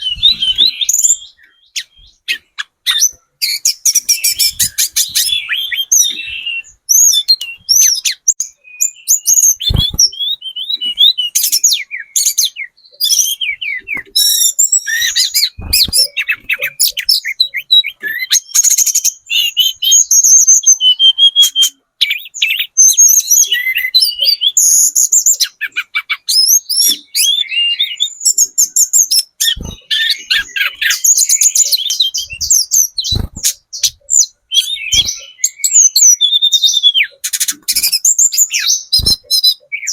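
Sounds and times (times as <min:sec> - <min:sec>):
bird warbling and trilling: 0:00.0 - 0:39.9.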